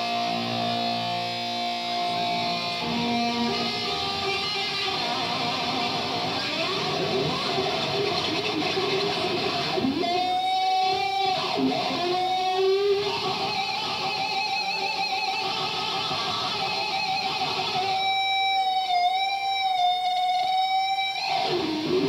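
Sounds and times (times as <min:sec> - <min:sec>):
electric guitar solo: 0:00.0 - 0:22.0.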